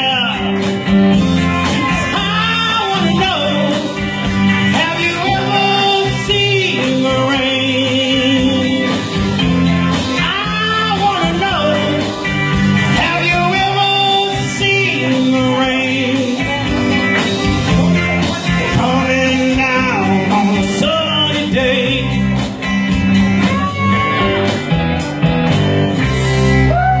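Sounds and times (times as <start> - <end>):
rock song with singing: 0.0 - 27.0.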